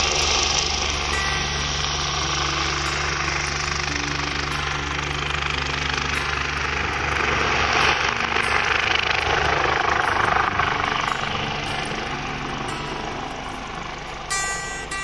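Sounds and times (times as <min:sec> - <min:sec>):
helicopter flying: 0:00.0 - 0:15.0.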